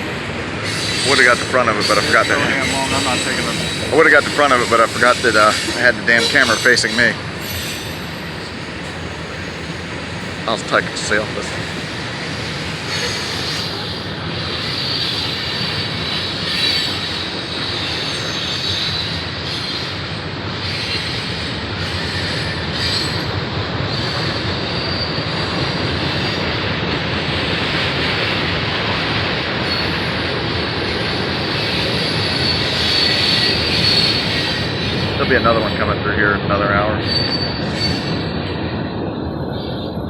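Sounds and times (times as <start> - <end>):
steel wheels rumbling on rails: 0.0 - 40.0
high wheel squeal: 0.6 - 26.6, 29.1 - 38.7.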